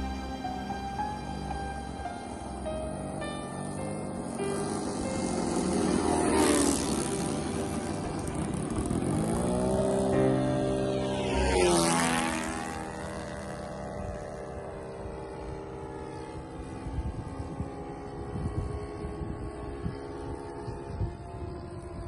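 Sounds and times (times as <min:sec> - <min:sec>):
model airplane engine droning: 0:00.0 - 0:22.0.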